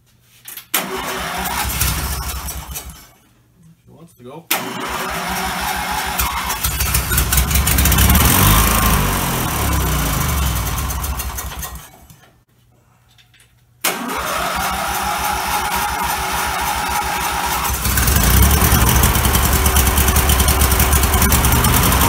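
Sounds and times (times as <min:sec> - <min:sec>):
lawn tractor engine cranking roughly: 0:00.8 - 0:03.0, 0:04.5 - 0:12.1, 0:13.9 - 0:22.0.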